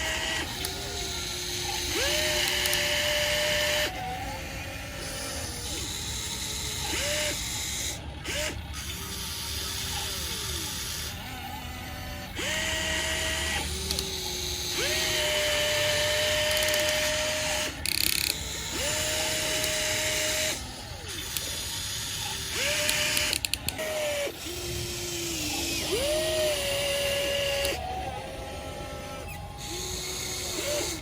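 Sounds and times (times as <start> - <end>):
small electric motors whining: 0.0 - 31.0.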